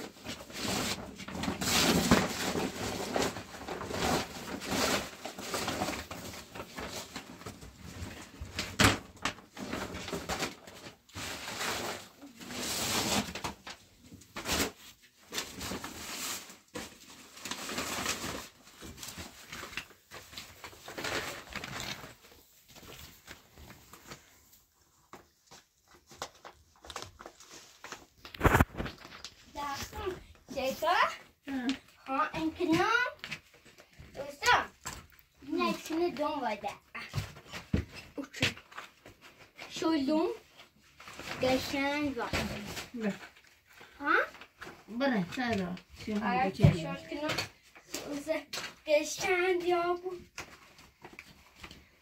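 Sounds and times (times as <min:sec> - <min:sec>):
plastic sacks rustling and crinkling: 0:00.0 - 0:52.0.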